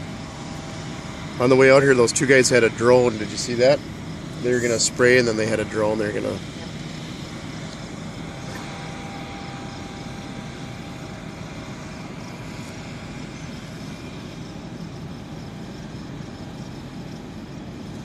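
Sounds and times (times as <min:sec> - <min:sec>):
machinery engine droning: 0:00.0 - 0:18.0.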